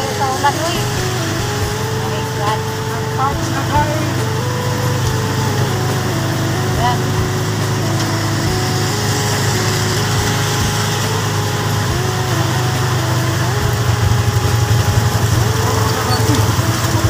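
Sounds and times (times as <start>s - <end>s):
heavy rain on road: 0.0s - 17.0s
vehicle engines driving past: 0.0s - 17.0s.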